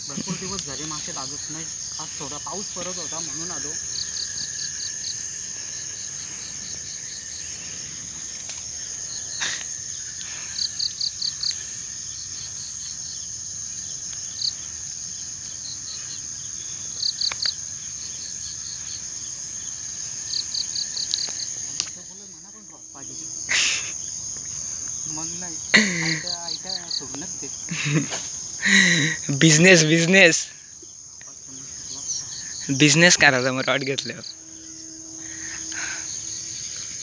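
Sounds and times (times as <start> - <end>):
crickets trilling: 0.0 - 37.0
quick insect chirps: 0.0 - 37.0.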